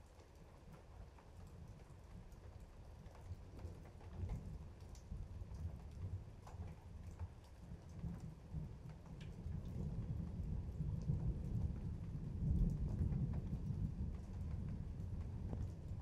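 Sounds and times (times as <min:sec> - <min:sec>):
rain with ticking drops: 0:00.0 - 0:16.0.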